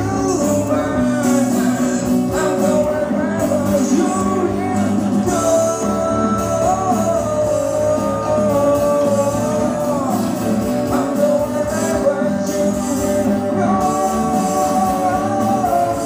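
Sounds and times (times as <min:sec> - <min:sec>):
electric guitar: 0:00.0 - 0:16.0
man singing: 0:00.0 - 0:16.0
strummed acoustic guitar: 0:00.0 - 0:16.0.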